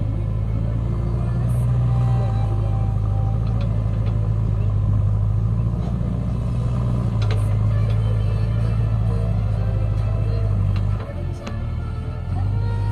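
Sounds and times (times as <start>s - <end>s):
heavy vehicle engine drone: 0.0s - 12.9s.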